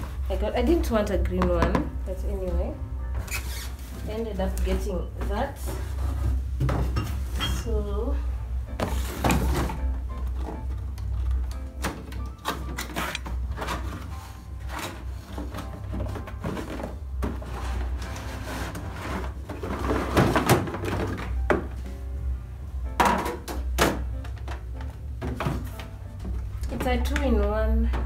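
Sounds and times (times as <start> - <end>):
background music with low beat: 0.0 - 28.0.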